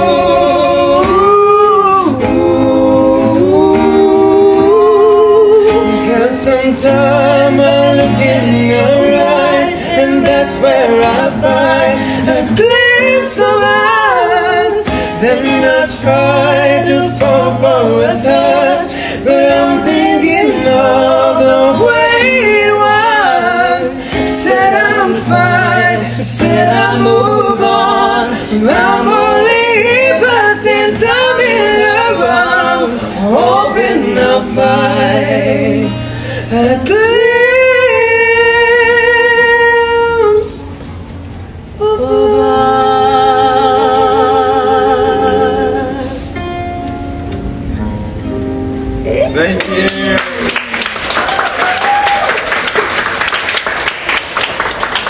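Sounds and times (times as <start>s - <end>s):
woman and man singing: 0.0s - 41.0s, 41.7s - 46.8s
acoustic guitars: 0.0s - 55.0s.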